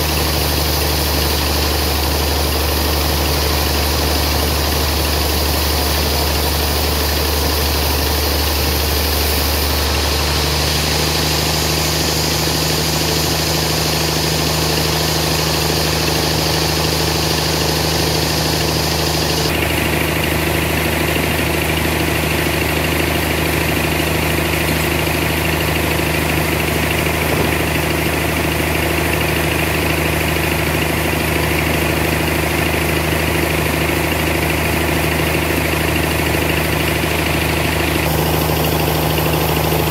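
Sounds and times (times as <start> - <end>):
band sawmill machine drone: 0.0 - 39.9.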